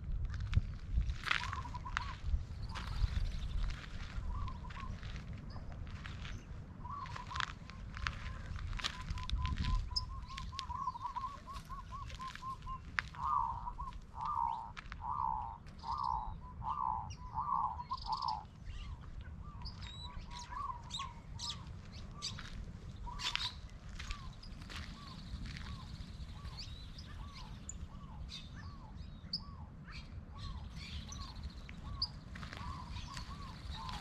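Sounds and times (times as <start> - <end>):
small birds chirping: 1.3 - 34.0
bird calling repeated notes: 1.4 - 3.0, 6.8 - 29.6, 30.4 - 34.0.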